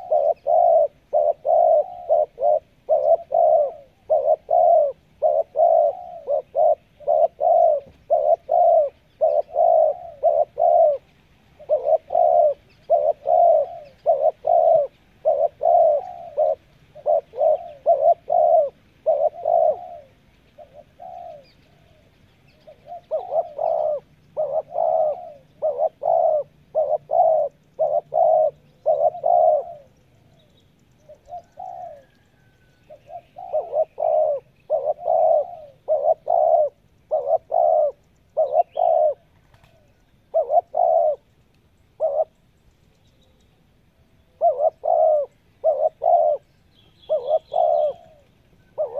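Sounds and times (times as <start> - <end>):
dove cooing: 0.0 - 42.5, 44.0 - 48.9.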